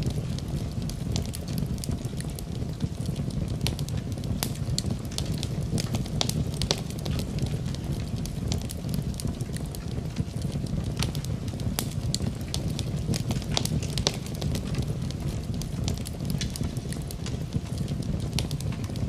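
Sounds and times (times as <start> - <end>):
logs crackling and popping: 0.0 - 19.0
low rumble of fire flames: 0.0 - 19.0.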